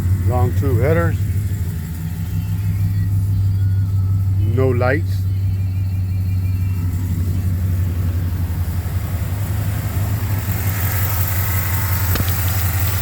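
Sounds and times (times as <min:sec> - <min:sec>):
truck exhaust idling: 0:00.0 - 0:13.0.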